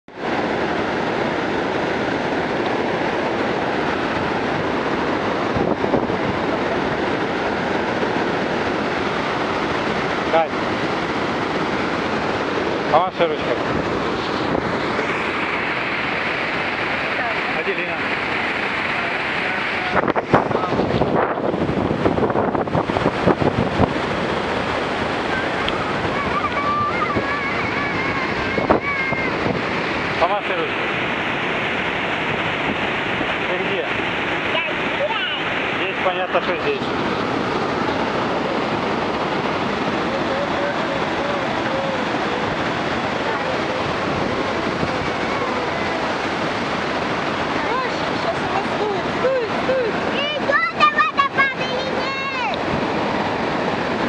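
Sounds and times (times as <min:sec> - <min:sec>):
waterfall roaring: 0:00.1 - 0:54.0
wind buffeting microphone: 0:00.1 - 0:54.0.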